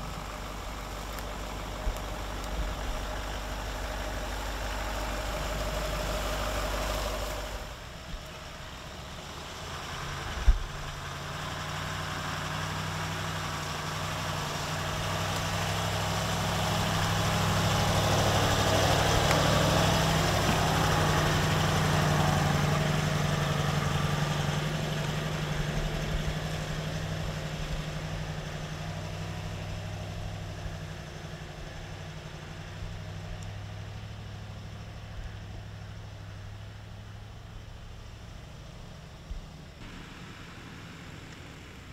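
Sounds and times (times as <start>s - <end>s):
diesel engine running at low revs: 0.0s - 41.9s.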